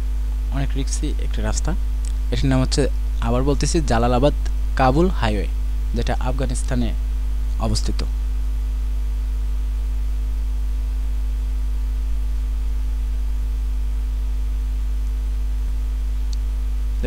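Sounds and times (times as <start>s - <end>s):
deep electrical hum: 0.0s - 17.0s
faint hiss: 0.0s - 17.0s.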